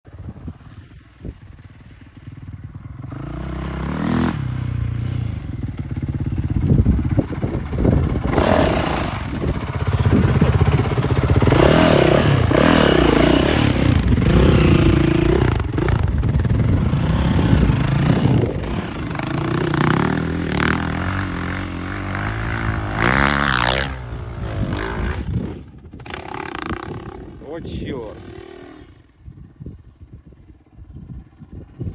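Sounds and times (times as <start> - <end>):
dirt bike engine revving: 1.5 - 30.0.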